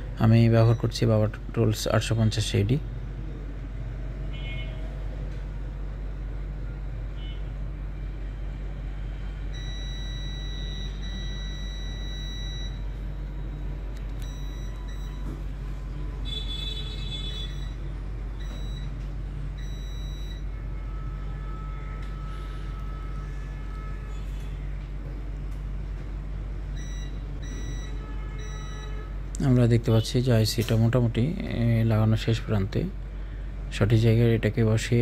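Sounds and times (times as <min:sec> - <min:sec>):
blower low hum: 0:00.0 - 0:35.0.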